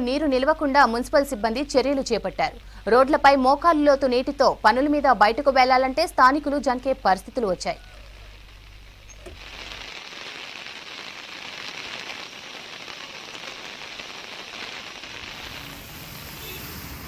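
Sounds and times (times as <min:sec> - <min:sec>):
heavy rain hissing: 0:00.4 - 0:17.0.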